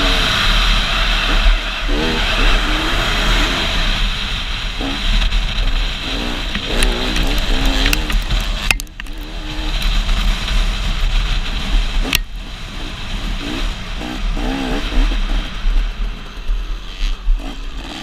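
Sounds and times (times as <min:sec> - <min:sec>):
dirt bike engine revving: 0:00.0 - 0:18.0
wind rushing over microphone: 0:00.0 - 0:18.0.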